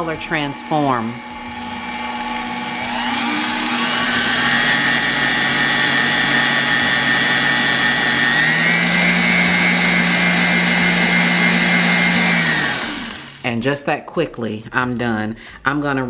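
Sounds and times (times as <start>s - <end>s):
stand mixer motor whine: 0.0s - 13.6s.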